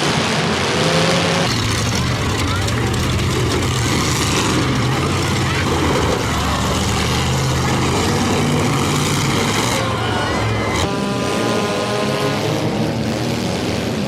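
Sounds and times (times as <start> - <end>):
car engines running loud: 0.0 - 14.0.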